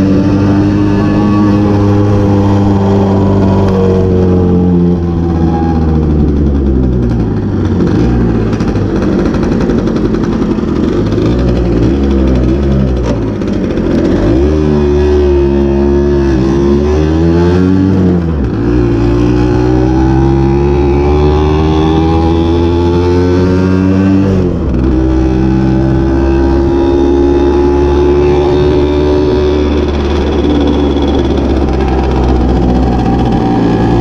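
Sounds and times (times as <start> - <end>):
moped two-stroke engine running: 0.0 - 34.0.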